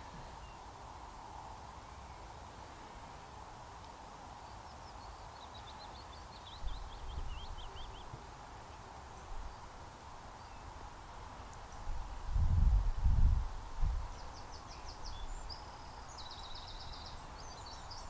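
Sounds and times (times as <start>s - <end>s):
outdoor background noise: 0.0s - 18.0s
songbird singing: 0.0s - 18.0s.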